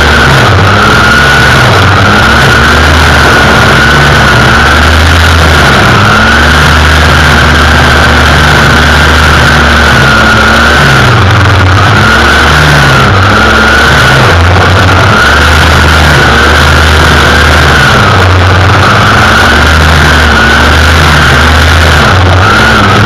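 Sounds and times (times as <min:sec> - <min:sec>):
string trimmer engine whining: 0:00.0 - 0:23.0
trimmer line cutting weeds: 0:00.0 - 0:23.0.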